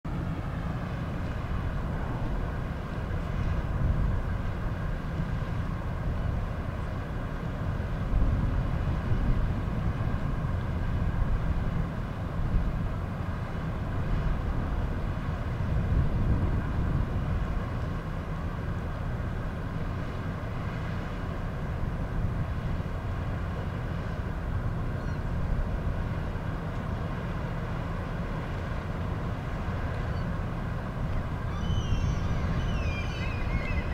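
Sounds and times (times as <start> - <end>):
low rumble in gusts: 0.0 - 33.9
ship engine droning: 0.1 - 33.9.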